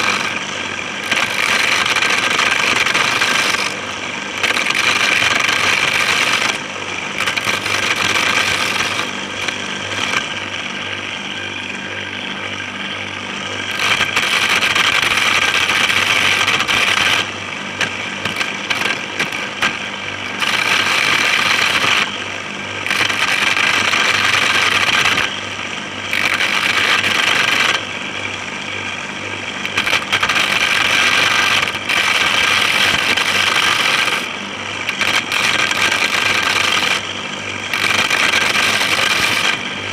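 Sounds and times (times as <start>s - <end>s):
corn kernels grinding off cob: 0.0s - 10.8s, 13.6s - 22.2s, 22.8s - 25.4s, 26.0s - 27.9s, 29.6s - 39.8s
electric motor humming: 0.0s - 39.9s.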